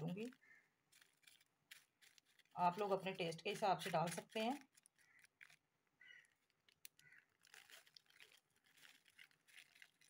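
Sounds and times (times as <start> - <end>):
foil packet crinkling: 0.0 - 10.0.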